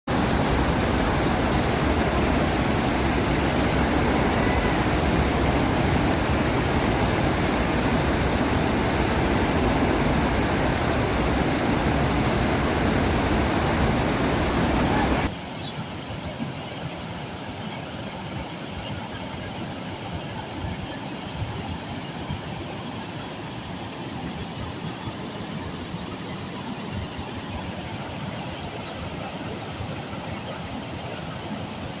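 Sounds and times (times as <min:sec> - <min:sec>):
waterfall roaring: 0:00.1 - 0:32.0.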